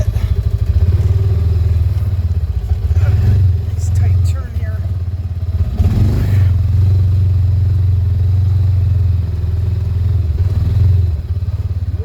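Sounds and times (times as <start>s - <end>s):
utility vehicle engine droning: 0.0s - 12.0s.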